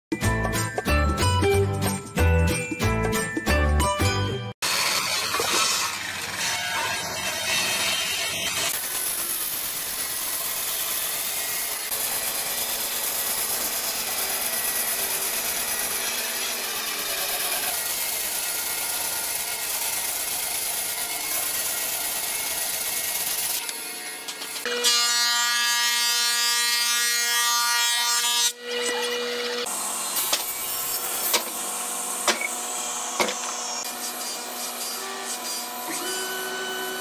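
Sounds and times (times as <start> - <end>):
band saw cutting wood: 4.6 - 37.0
table saw cutting board: 4.6 - 37.0.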